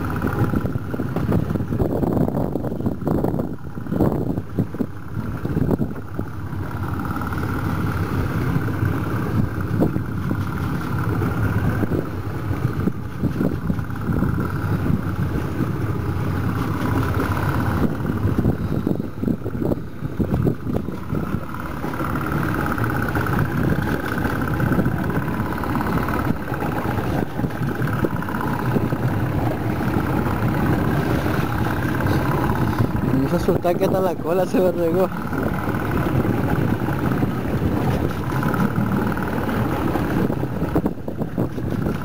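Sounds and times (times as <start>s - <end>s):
boat engine running: 0.0s - 42.0s
water noise: 0.0s - 42.0s
wind: 0.0s - 42.0s.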